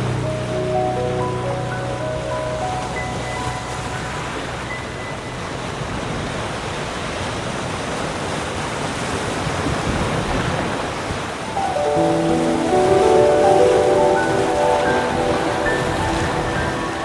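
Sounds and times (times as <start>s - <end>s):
ocean surf washing ashore: 0.0s - 17.0s.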